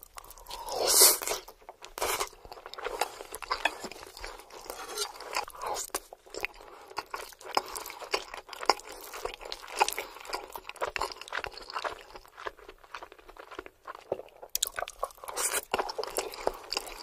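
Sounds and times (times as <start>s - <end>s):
wet crunchy chewing: 0.0s - 17.0s.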